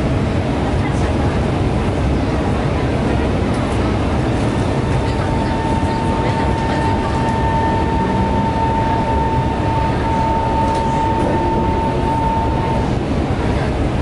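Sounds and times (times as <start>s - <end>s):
train high whine: 0.0s - 14.0s
train low rumble: 0.0s - 14.0s.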